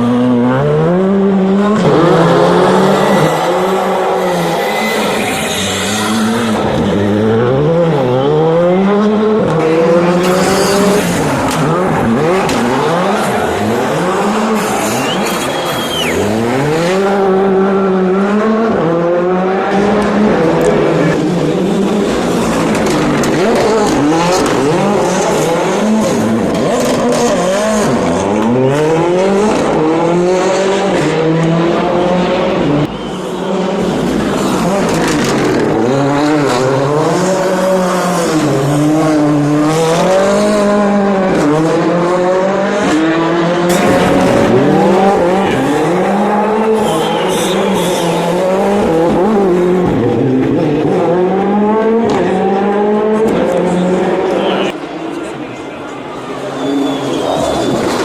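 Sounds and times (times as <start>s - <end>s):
rally car engine revving: 0.0s - 55.4s.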